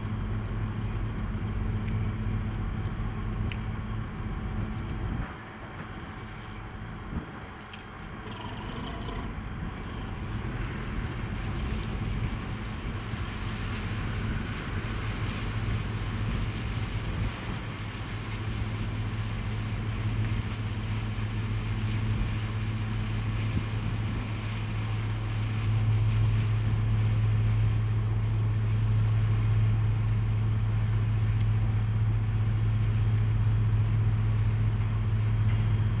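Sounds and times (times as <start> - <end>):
ferry diesel engine droning: 0.0 - 36.0.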